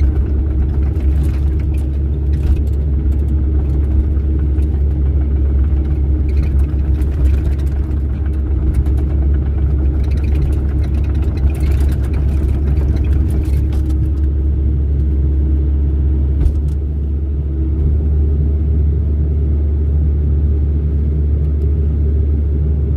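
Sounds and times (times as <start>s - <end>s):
excavator diesel engine rumbling: 0.0s - 22.9s.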